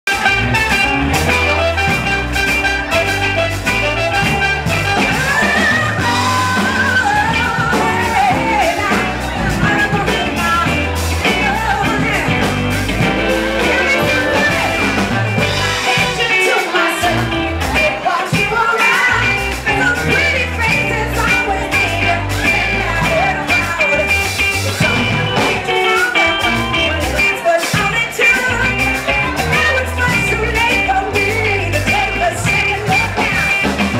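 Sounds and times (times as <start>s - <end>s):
live band playing upbeat song: 0.0s - 33.9s
female lead vocals: 4.7s - 33.8s.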